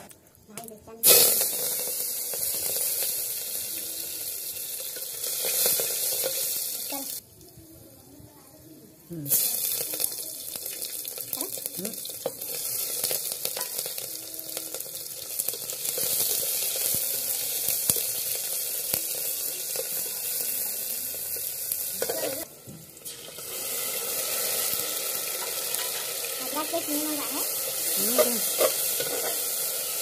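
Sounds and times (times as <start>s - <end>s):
onions sizzling in hot oil: 0.2s - 30.0s.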